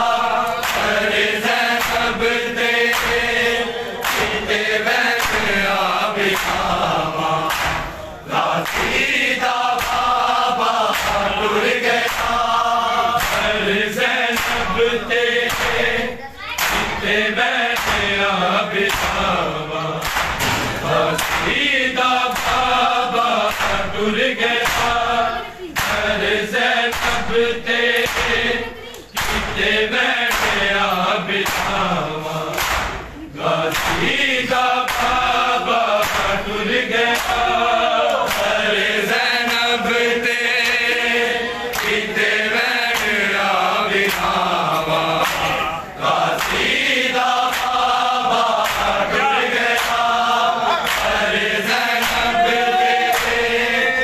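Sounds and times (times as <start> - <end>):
men chanting in chorus: 0.0 - 54.0
chest-beating slaps: 0.1 - 18.2, 18.8 - 19.4, 20.0 - 39.9, 40.5 - 53.7.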